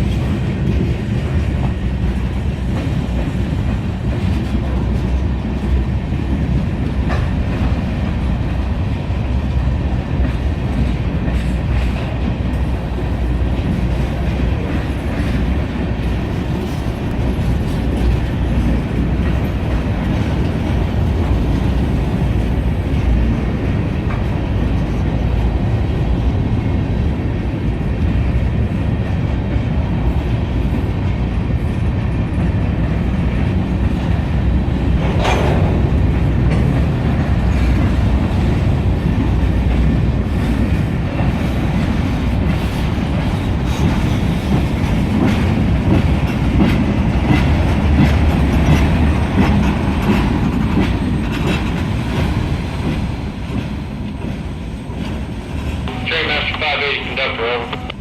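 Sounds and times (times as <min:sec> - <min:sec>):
wheels clicking over rail joints: 0:00.0 - 0:08.8, 0:09.5 - 0:25.5, 0:30.6 - 0:55.8
freight train rumbling past: 0:00.0 - 0:58.0.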